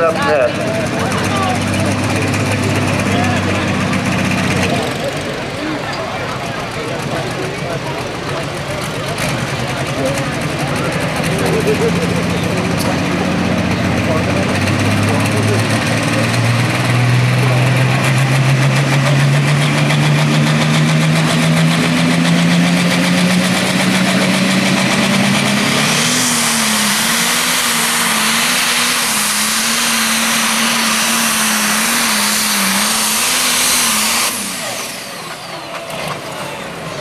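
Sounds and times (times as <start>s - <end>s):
tractor diesel engine at full throttle: 0.0s - 37.0s.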